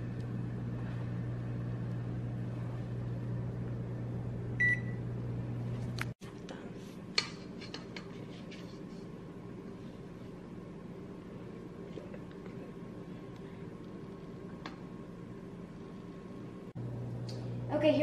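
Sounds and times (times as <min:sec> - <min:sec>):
oven electrical hum: 0:00.0 - 0:18.0.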